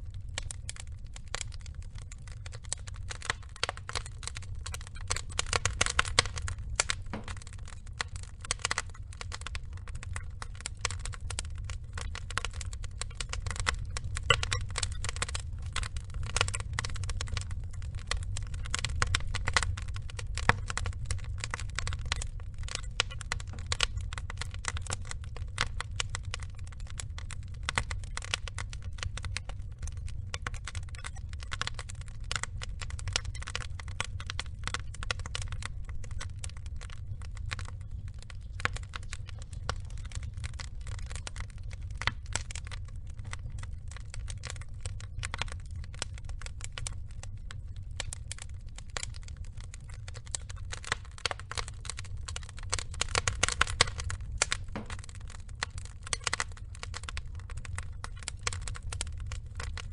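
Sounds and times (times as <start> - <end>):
burning logs crackling and popping: 0.0 - 59.9
low steady rumble: 0.0 - 59.9.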